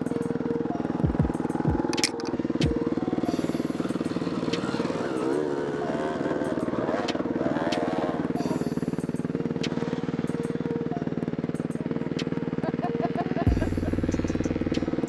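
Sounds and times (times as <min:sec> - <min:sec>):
wavering high-pitched sound: 0:00.0 - 0:15.0.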